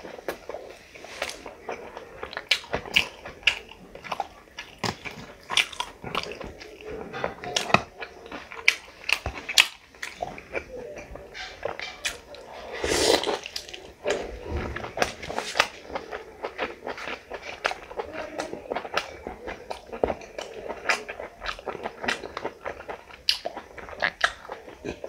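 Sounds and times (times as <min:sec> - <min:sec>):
chewing and lip smacks: 0:00.0 - 0:25.0.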